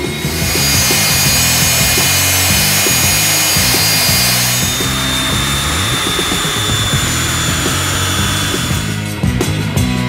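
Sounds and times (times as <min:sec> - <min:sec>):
gas turbine rushing and whining: 0:00.0 - 0:09.2.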